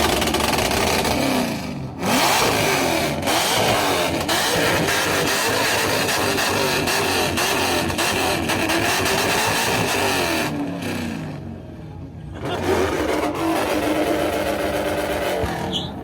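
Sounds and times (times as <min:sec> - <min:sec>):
car engine revving: 0:00.0 - 0:11.6, 0:12.4 - 0:16.0.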